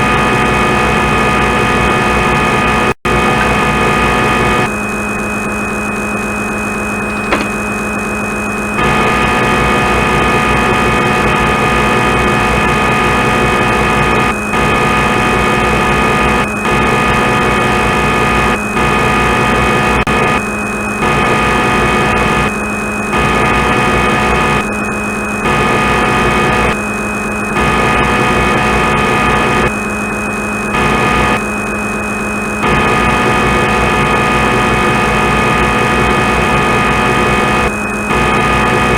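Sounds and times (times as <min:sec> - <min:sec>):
machine humming drone: 0:00.0 - 0:38.9.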